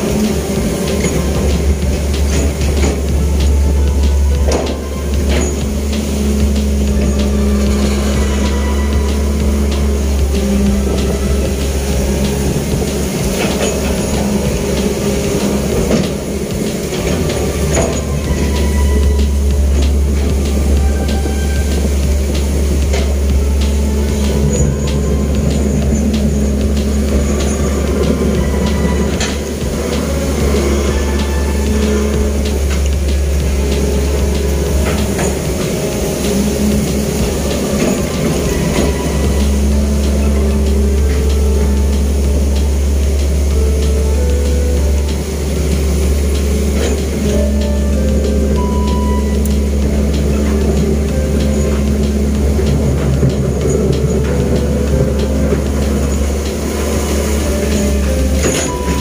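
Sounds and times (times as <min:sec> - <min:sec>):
diesel engine and hydraulics rumbling: 0:00.0 - 0:59.0.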